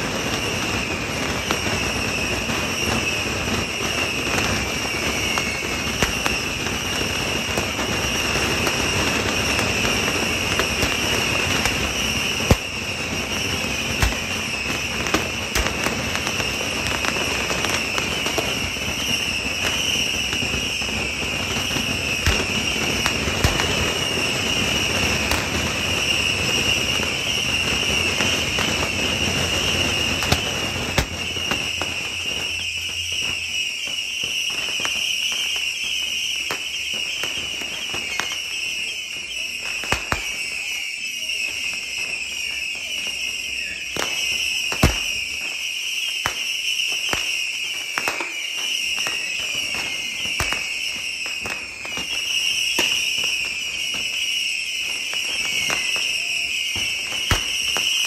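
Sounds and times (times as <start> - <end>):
firework bangs: 0.0 - 58.0
fireworks crackling: 0.0 - 58.0.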